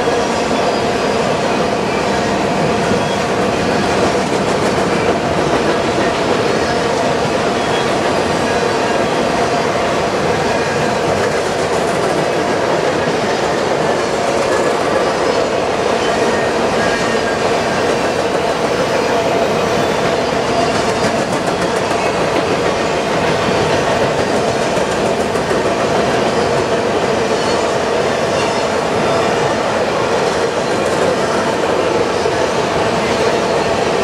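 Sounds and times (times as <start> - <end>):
train wheels rolling on rail: 0.0 - 34.0.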